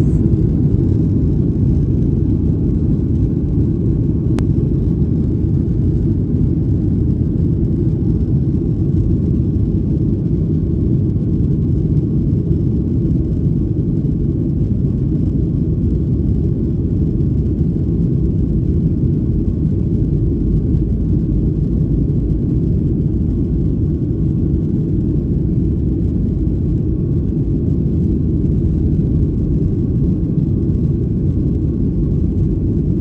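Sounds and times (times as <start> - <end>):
airplane cabin low rumble: 0.0 - 33.0.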